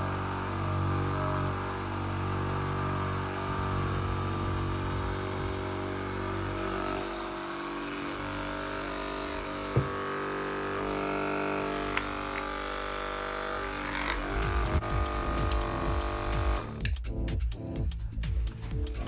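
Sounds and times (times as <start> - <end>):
massage gun motor humming: 0.0 - 16.9.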